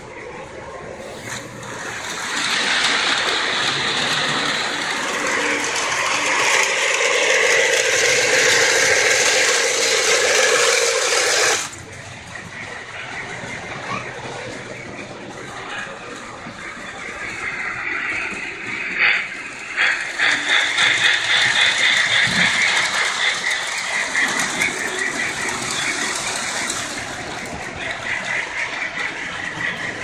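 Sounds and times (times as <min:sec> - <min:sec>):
model train rattling on track: 0:00.0 - 0:30.0.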